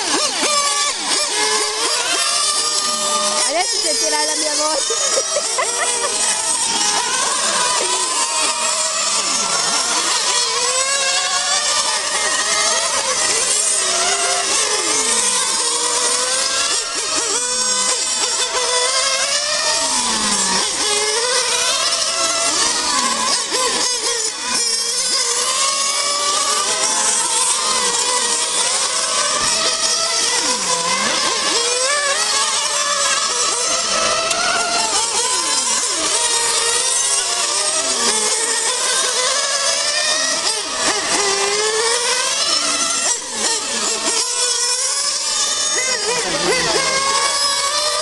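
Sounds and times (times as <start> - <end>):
radio-controlled car engines buzzing: 0.0 - 48.0.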